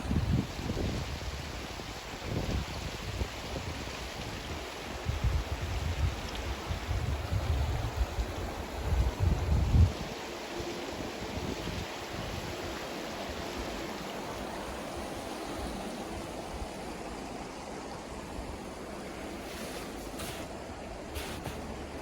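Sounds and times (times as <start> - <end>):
river flowing: 0.0 - 22.0.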